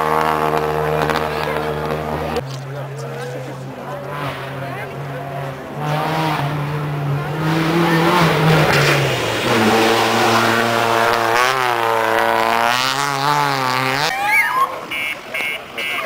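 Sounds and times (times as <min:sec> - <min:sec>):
rally car engine accelerating: 0:00.0 - 0:14.6.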